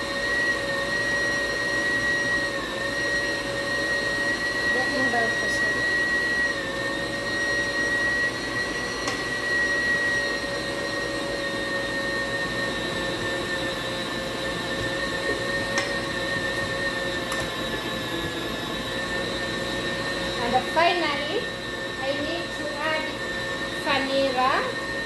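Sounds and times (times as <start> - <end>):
stand mixer motor whining: 0.0 - 25.0.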